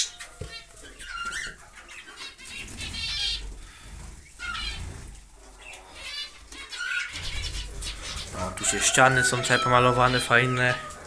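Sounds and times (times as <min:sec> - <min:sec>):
small birds chirping and chattering: 0:00.0 - 0:11.0.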